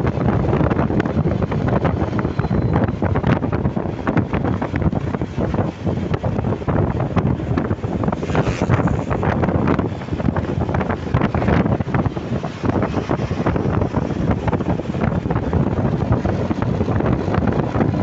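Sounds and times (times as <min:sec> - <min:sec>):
road and engine rumble: 0:00.0 - 0:18.0
wind buffeting microphone: 0:00.0 - 0:18.0.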